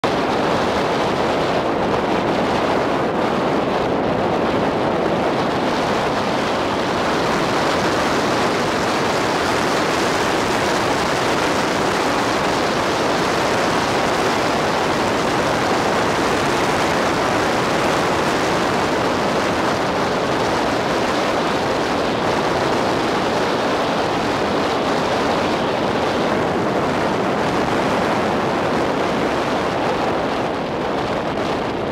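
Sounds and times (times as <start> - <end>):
road and wind noise: 0.0 - 31.9.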